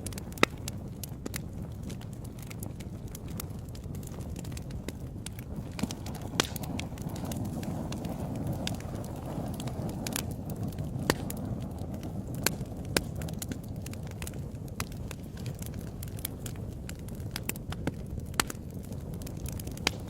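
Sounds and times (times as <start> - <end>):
sharp fire pops: 0.0 - 20.0
wood fire crackling: 0.0 - 20.0.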